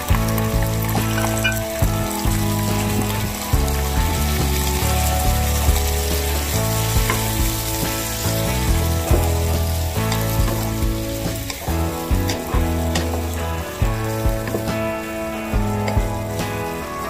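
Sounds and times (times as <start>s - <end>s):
background music: 0.0s - 17.0s
food sizzling in a pot: 0.0s - 17.0s.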